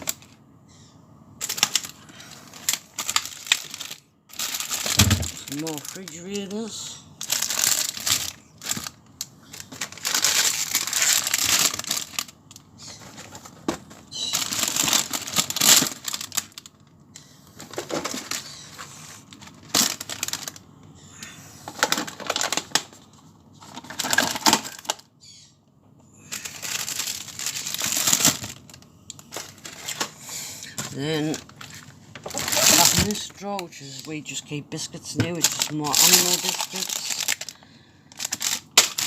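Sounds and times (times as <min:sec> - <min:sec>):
plastic packaging crinkling: 0:00.0 - 0:00.4, 0:01.4 - 0:20.8, 0:21.7 - 0:25.1, 0:26.3 - 0:39.0.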